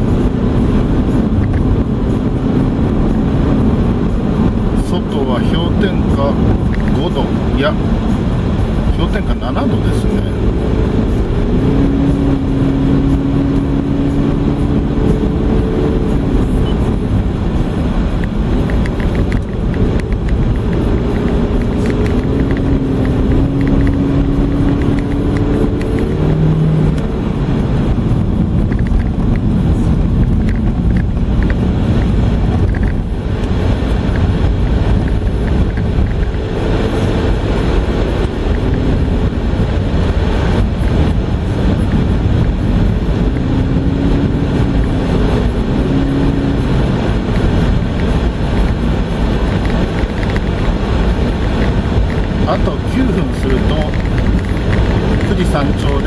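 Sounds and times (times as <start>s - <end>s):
car engine hum: 0.0s - 56.0s
tyre and road rumble: 0.0s - 56.0s.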